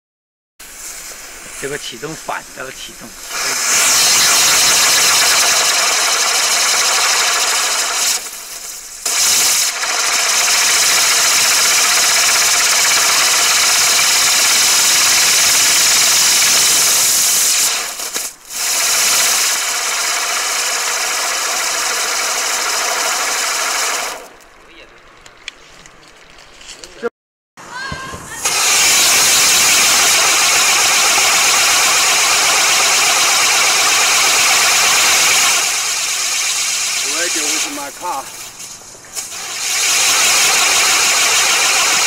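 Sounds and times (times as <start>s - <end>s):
firework hissing sparks: 0.6s - 24.5s, 27.7s - 42.0s.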